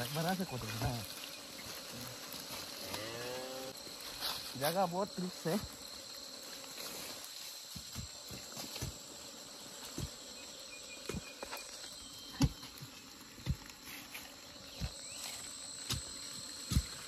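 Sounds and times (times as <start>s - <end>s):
insects chirping chorus: 0.0s - 17.0s.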